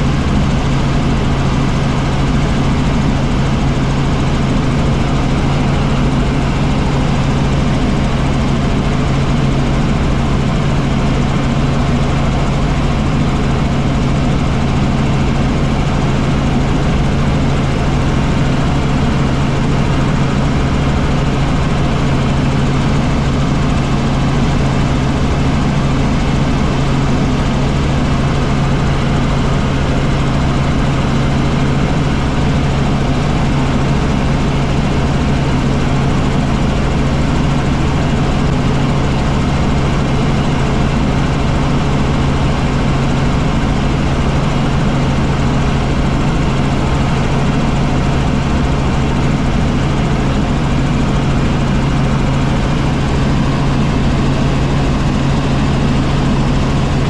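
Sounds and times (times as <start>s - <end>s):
helicopter engine and rotors droning: 0.0s - 57.0s.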